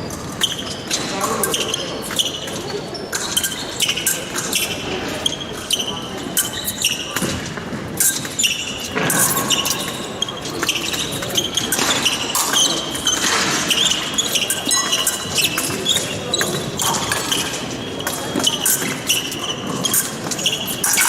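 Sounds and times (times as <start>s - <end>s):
shoes squeaking: 0.0s - 21.0s.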